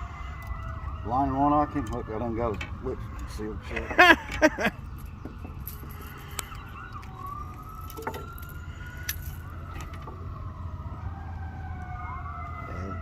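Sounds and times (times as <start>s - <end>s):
distant sirens wailing: 0.0s - 13.0s.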